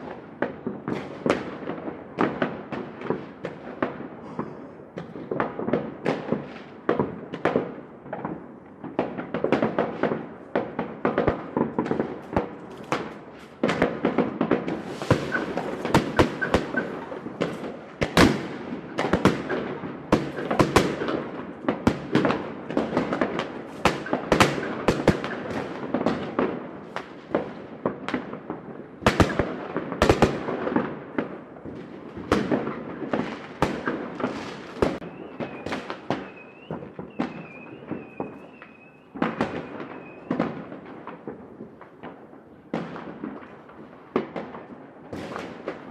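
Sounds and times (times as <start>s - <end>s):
echoing fireworks reports: 0.0s - 45.9s
fireworks bangs and pops: 0.0s - 45.9s.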